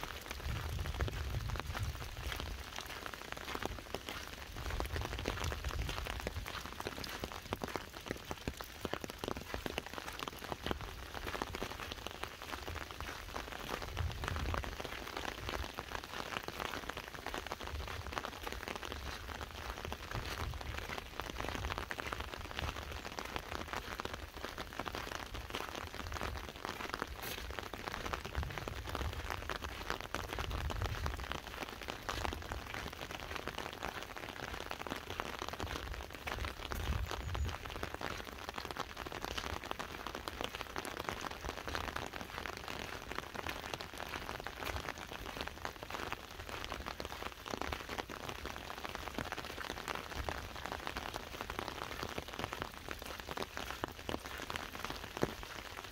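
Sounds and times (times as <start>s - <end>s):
rain pattering on umbrella: 0.0s - 55.9s.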